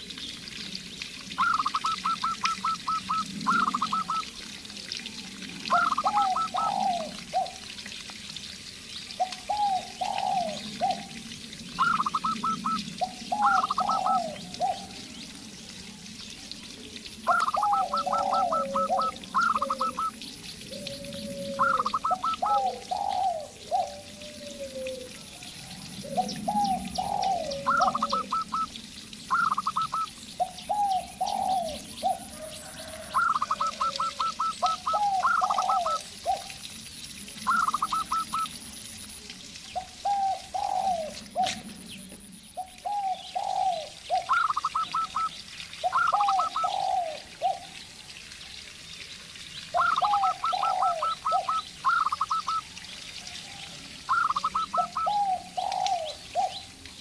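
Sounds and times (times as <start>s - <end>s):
doves cooing: 1.4s - 4.3s, 5.2s - 7.8s, 9.2s - 15.1s, 17.2s - 36.6s, 37.3s - 38.6s, 39.8s - 42.0s, 42.6s - 47.8s, 49.7s - 52.6s, 53.6s - 56.7s.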